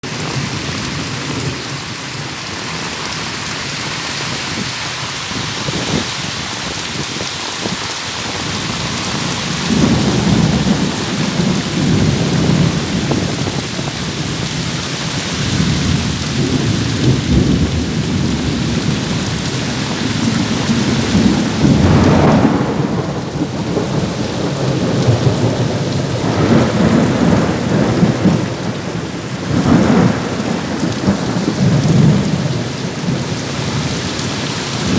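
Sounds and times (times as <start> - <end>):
heavy rain hissing: 0.0 - 34.9
thunder rumbling: 0.1 - 34.9.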